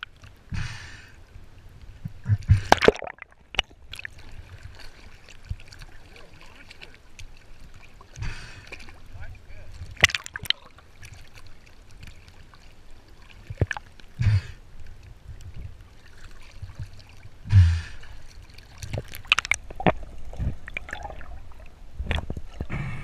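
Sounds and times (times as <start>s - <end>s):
water sloshing and gurgling: 0.0s - 23.0s
water splashes: 0.0s - 23.0s.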